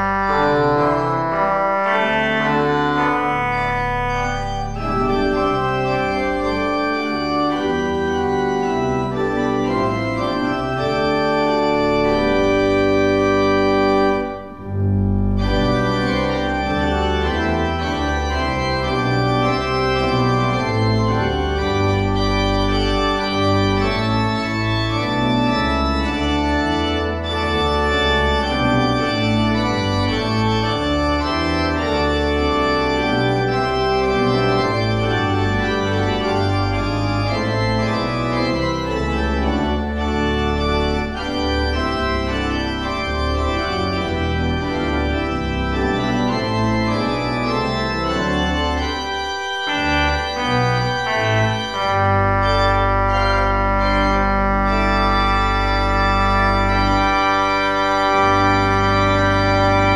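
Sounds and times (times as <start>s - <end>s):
organ music: 0.0s - 59.9s.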